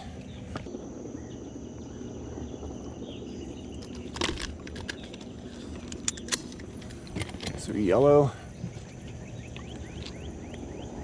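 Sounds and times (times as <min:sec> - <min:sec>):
low hum with high whine: 0:00.0 - 0:11.0.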